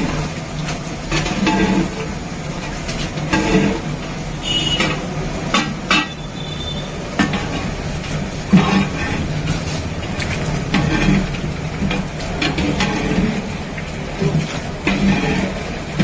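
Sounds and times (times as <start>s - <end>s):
gas burner flame hum: 0.0s - 16.0s
metal ladle scraping a pot: 1.1s - 2.1s, 3.2s - 13.6s, 14.2s - 16.0s.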